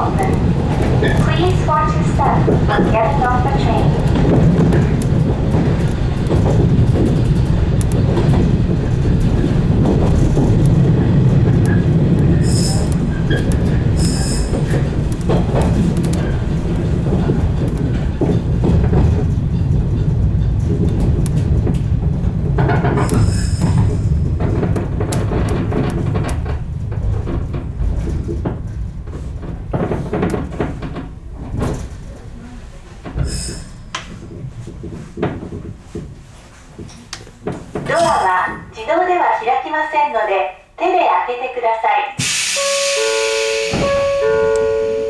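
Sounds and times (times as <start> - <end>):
wheels clicking over rail joints: 0.0 - 38.8
electric train rumbling on track: 0.0 - 41.3, 42.2 - 45.0.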